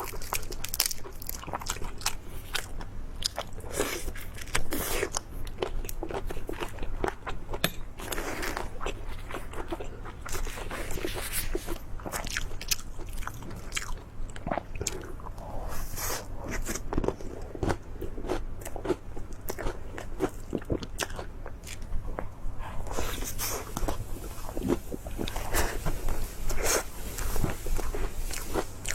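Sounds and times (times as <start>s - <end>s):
person chewing crunchy food: 0.0s - 28.9s.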